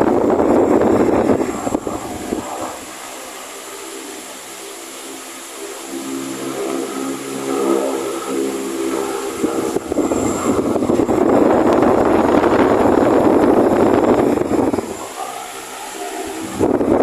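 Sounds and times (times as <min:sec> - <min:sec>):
faint motor hum: 0:00.0 - 0:17.0
floor fan airflow rushing: 0:00.0 - 0:17.0.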